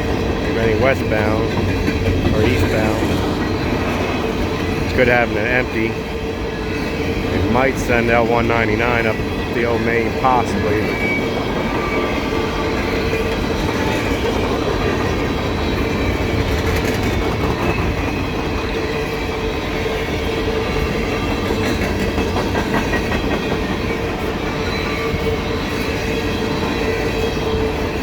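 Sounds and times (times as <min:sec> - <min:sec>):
train cars rolling on rails: 0:00.0 - 0:28.0.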